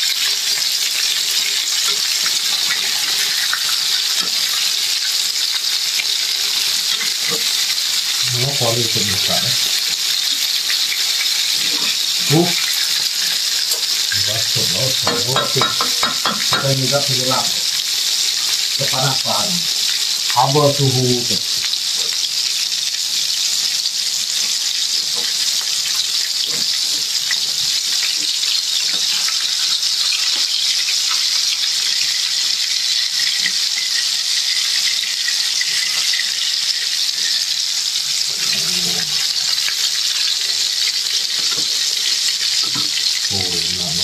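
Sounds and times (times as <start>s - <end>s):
fish deep-frying in oil: 0.0s - 44.0s.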